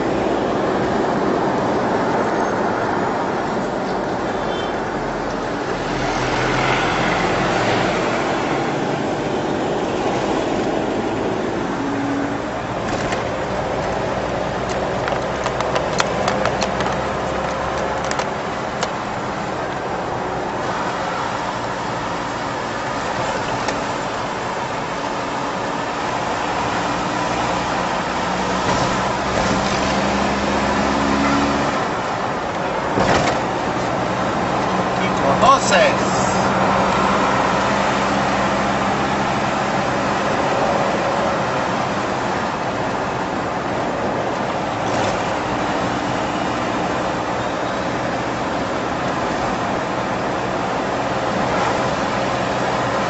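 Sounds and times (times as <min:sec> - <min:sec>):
bus passing: 0:00.0 - 0:53.0
vehicle engine and road noise: 0:00.0 - 0:53.0.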